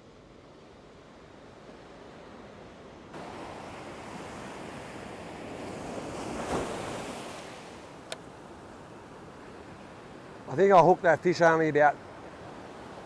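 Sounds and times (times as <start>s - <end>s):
ocean waves washing on beach: 0.0s - 13.0s.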